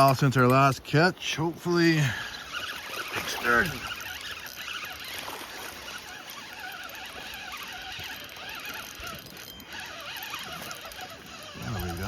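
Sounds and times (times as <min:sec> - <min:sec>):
fishing reel whirring and clicking: 0:00.0 - 0:12.0.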